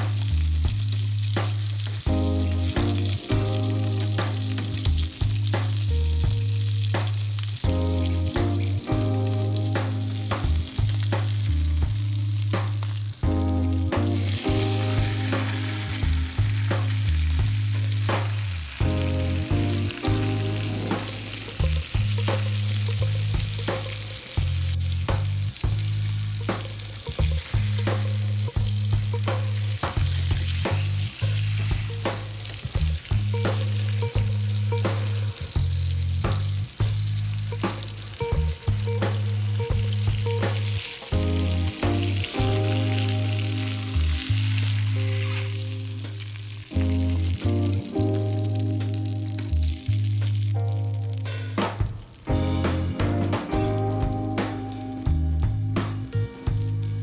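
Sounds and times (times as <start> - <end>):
fish sizzling in hot oil: 0.0 - 8.6, 9.2 - 52.6.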